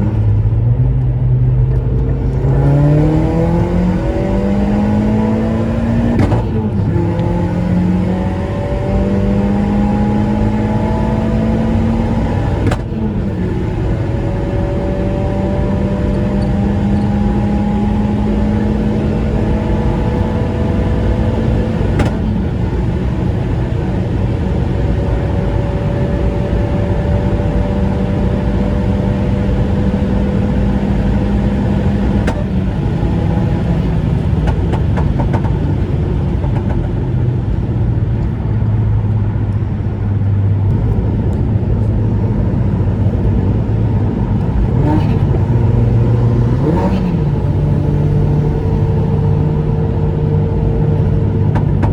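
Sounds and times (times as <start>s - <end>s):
gear change: 0.0s - 40.0s, 40.6s - 51.9s
car engine accelerating: 0.0s - 51.9s
road noise: 0.0s - 51.9s.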